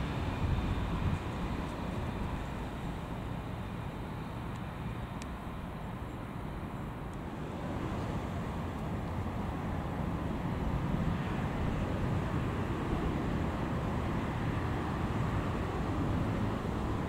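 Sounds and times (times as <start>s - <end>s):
passenger train rumble: 0.0s - 17.0s
traffic noise: 0.0s - 17.0s.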